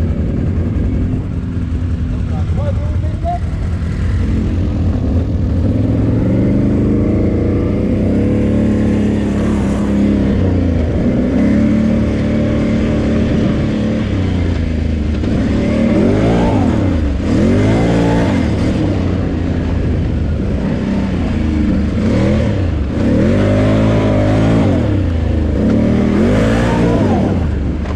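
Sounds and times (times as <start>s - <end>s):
quad bike engine revving: 0.0s - 27.9s.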